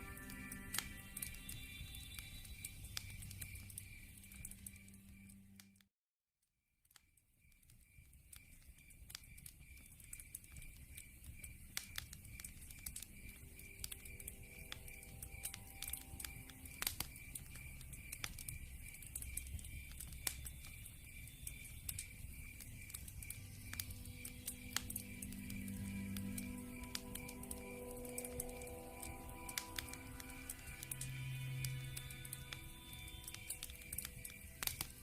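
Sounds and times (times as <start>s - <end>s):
high chirping insect: 0.0s - 5.6s, 9.4s - 35.0s
log fire crackling and popping: 0.0s - 5.7s, 7.4s - 35.0s.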